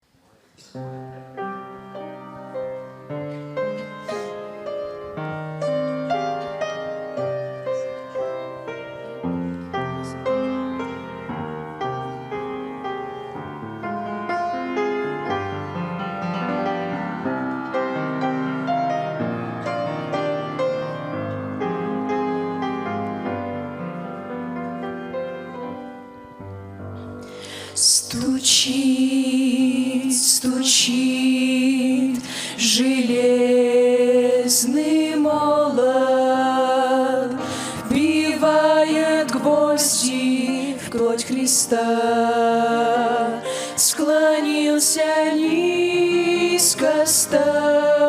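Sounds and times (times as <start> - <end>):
piano playing hymn chords: 0.8 - 48.0.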